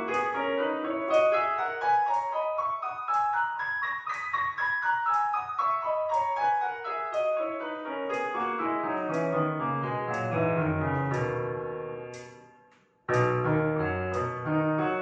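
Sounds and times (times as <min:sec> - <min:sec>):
piano descending run: 0:00.0 - 0:12.4.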